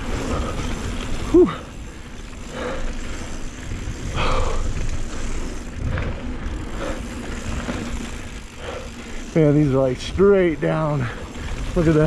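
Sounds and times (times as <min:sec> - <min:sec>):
heavy labored breathing: 0:00.0 - 0:09.4, 0:11.0 - 0:11.8
wind and tyres on dirt trail: 0:00.0 - 0:12.0.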